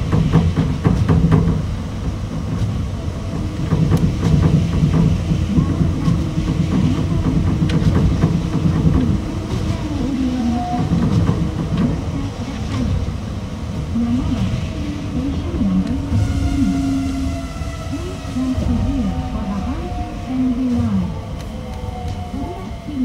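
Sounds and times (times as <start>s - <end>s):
monorail tyres rumbling: 0.0s - 23.0s.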